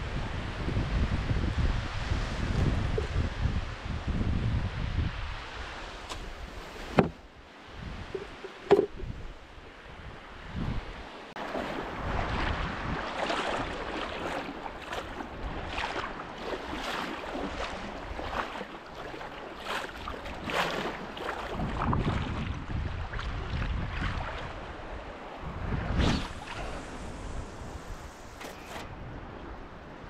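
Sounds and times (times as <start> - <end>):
wind buffeting microphone: 0.0 - 11.1, 11.7 - 30.0
surf water sloshing and splashing: 1.0 - 30.0.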